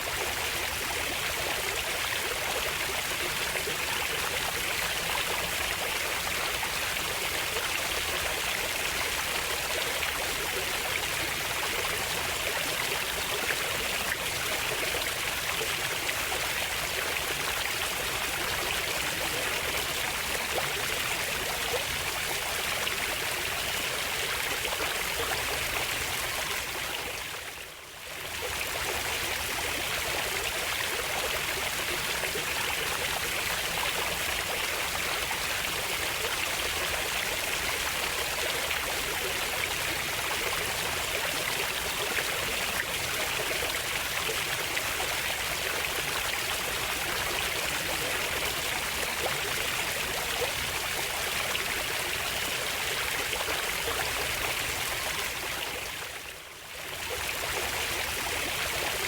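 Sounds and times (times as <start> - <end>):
flowing water: 0.0 - 59.0.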